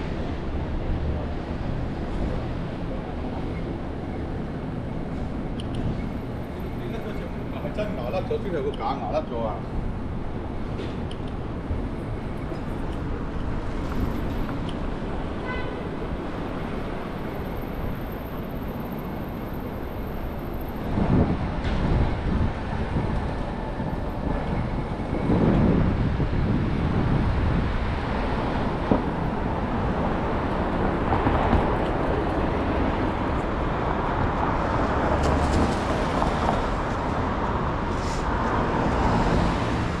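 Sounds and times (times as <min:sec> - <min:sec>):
road noise rush: 0:00.0 - 0:40.0
vehicles passing: 0:00.0 - 0:40.0.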